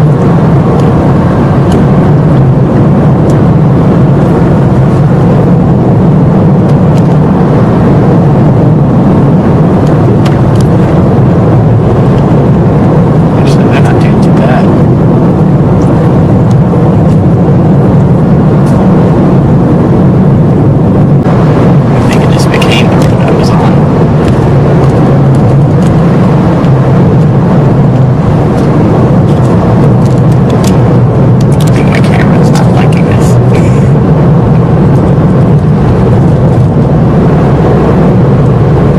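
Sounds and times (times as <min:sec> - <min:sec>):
car road and engine drone: 0:00.0 - 0:38.9.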